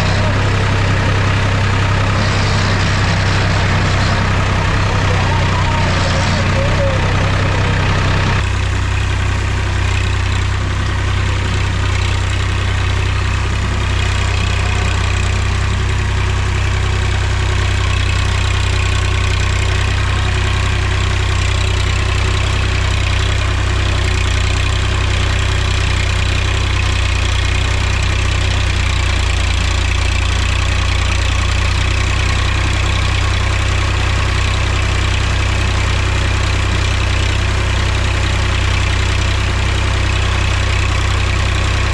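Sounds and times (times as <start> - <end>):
tractor diesel engine humming: 0.0 - 41.9.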